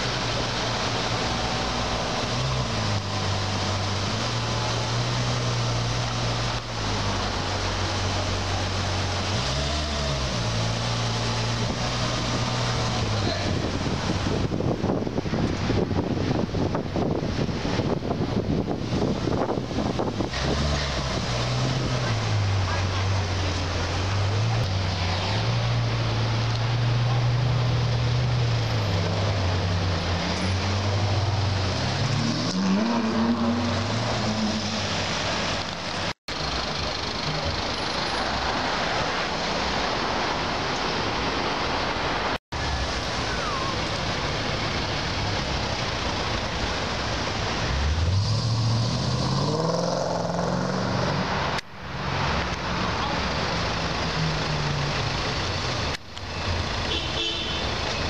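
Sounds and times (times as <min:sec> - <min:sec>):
traffic noise: 0:00.0 - 0:58.0.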